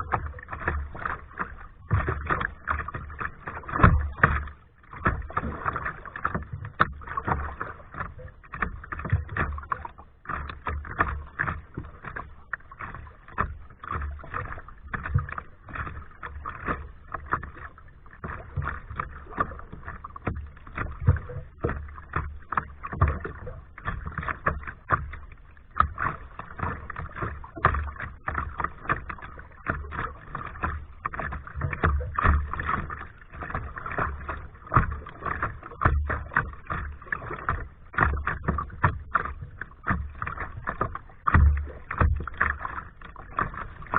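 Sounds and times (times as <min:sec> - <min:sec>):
paddle splashing in water: 0:00.0 - 0:43.9.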